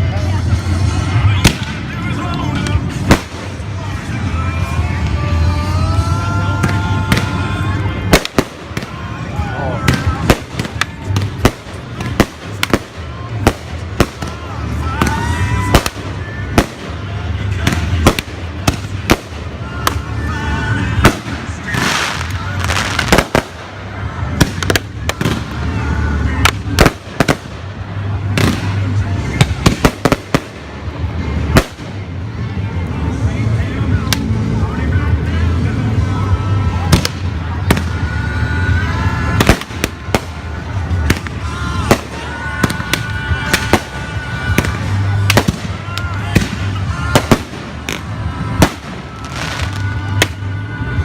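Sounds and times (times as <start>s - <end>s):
fireworks bangs: 0.7s - 4.3s, 6.4s - 32.1s, 36.9s - 51.0s.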